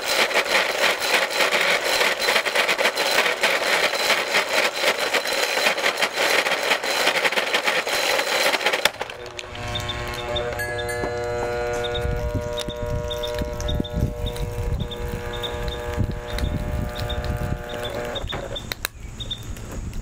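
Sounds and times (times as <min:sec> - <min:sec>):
blender motor rattling whine: 0:00.0 - 0:18.8
motor hum: 0:00.0 - 0:18.9.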